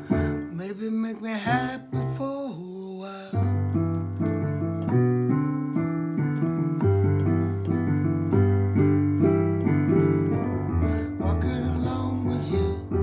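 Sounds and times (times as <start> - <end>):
keyboard piano chords: 0.0 - 13.0.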